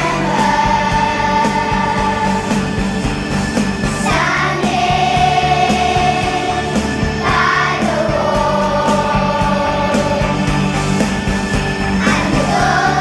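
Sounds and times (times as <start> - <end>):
children's choir singing: 0.0 - 2.9, 3.8 - 11.1, 11.9 - 13.0
backing track with steady beat: 0.0 - 13.0.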